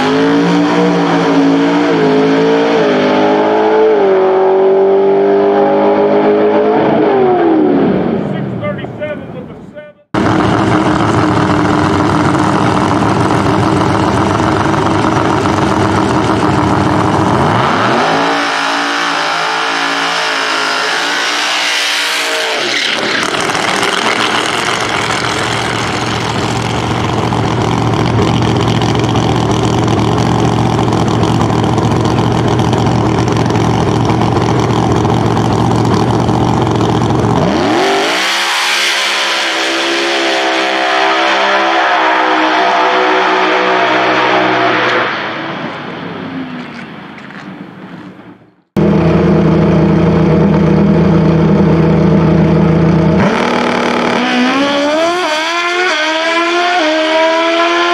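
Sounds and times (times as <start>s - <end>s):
drag car engine revving: 0.0s - 9.1s, 10.1s - 45.9s, 48.8s - 57.9s.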